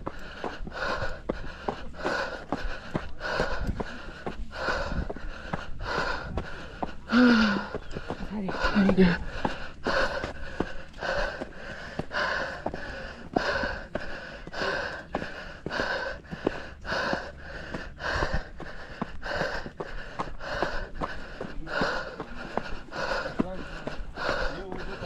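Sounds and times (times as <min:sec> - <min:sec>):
light footfalls on trail: 0:00.0 - 0:25.0
runner breathing hard: 0:00.0 - 0:25.0.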